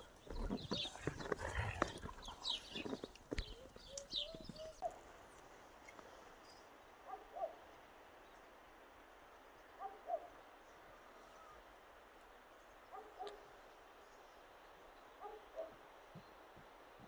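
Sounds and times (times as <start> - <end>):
faint steady hiss: 1.0 - 17.0.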